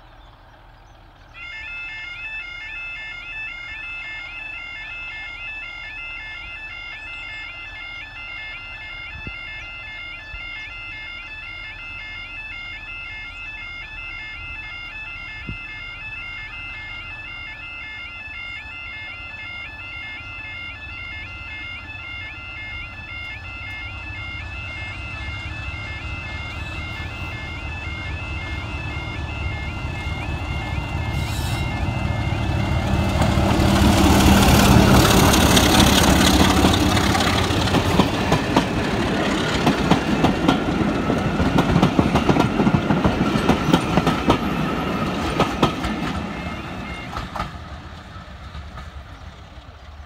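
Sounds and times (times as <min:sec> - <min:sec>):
level crossing alarm warbling: 0:01.4 - 0:48.3.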